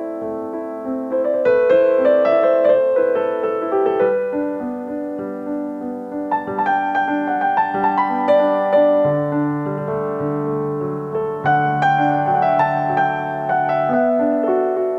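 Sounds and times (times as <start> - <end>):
piano or keyboard music: 0.0 - 14.9.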